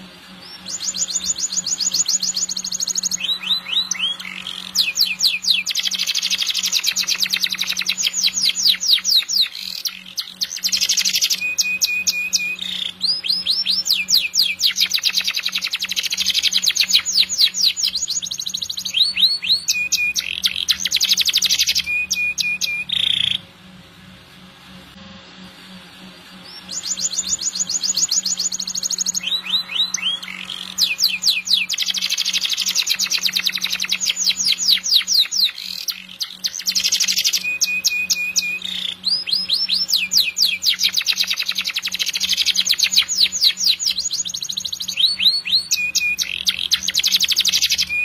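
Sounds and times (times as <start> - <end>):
canary singing trills: 0.0 - 23.5, 26.4 - 48.0.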